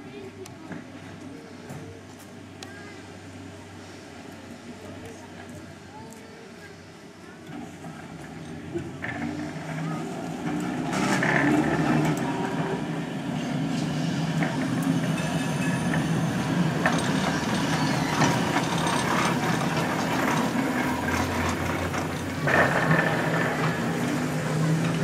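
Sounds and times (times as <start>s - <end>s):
electric tram hum and rumble: 0.0s - 25.0s.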